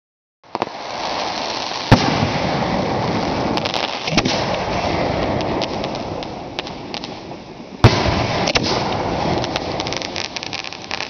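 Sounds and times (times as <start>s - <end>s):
faint crackles: 0.4s - 11.0s
fireworks sharp bangs: 0.4s - 11.0s
fireworks rushing hiss: 0.5s - 11.0s.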